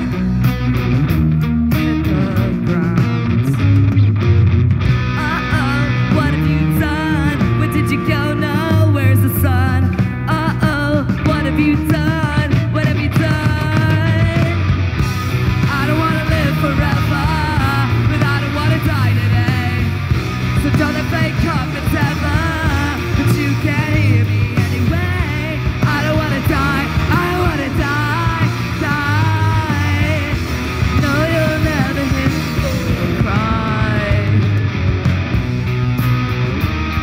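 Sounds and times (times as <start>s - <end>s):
punk rock band playing: 0.0s - 37.0s
person singing: 1.7s - 4.1s, 5.1s - 14.7s, 15.6s - 34.8s.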